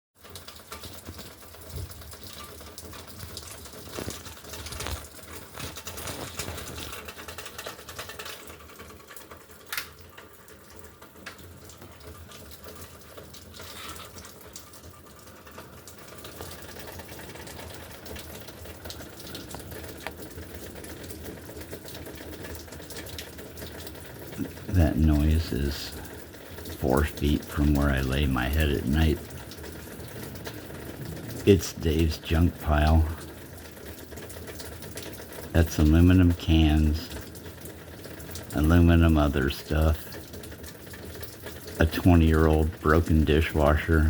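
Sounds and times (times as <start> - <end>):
rain ticking on metal: 0.2 - 44.0.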